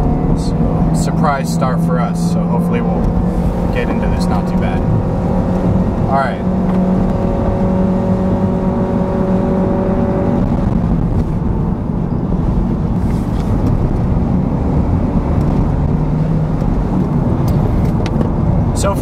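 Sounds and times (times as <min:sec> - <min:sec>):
car engine drone: 0:00.0 - 0:19.0
tyre and road rumble: 0:00.0 - 0:19.0.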